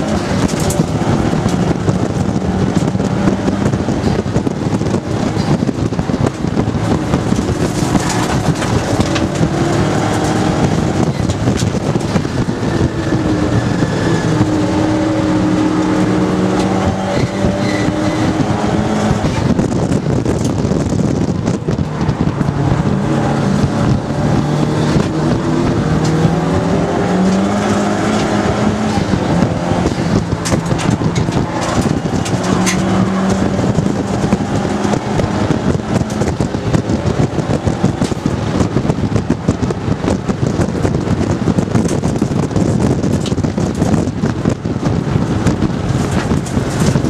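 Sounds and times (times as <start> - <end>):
car engine under load: 0.0 - 47.0
wind and road noise: 0.0 - 47.0.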